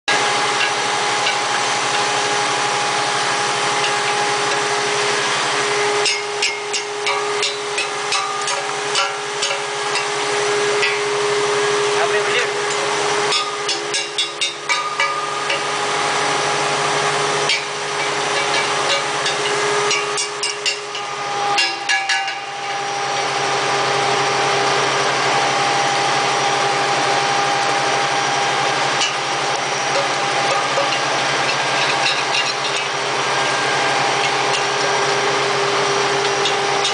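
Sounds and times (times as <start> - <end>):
pellet machine motor hum: 0.1 - 36.9.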